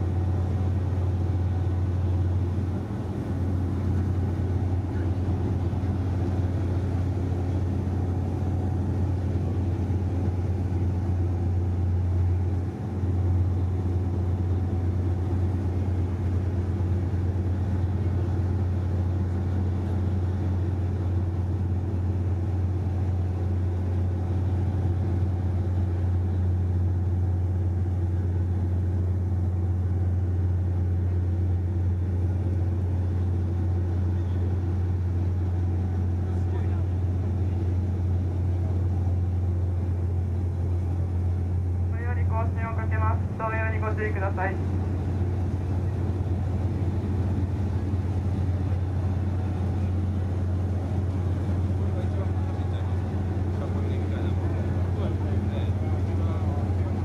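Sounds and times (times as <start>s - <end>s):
ship engines droning: 0.0s - 57.0s.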